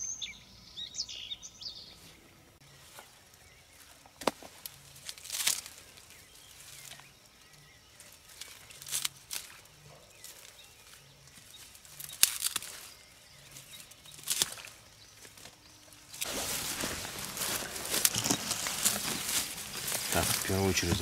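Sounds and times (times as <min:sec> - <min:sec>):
reed stems rustling and crackling: 0:02.6 - 0:21.0.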